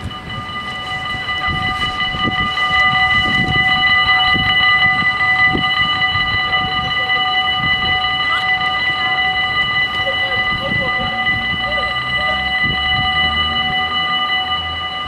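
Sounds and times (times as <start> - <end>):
level crossing warning bells ringing: 0.0 - 15.0.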